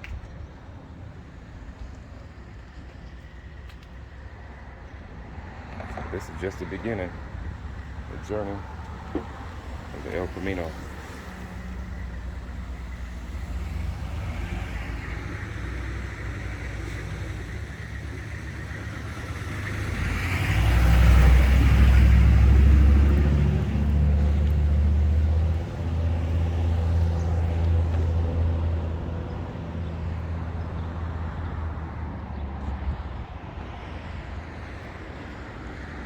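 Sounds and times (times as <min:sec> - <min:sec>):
vehicle engine humming: 0:01.3 - 0:36.0.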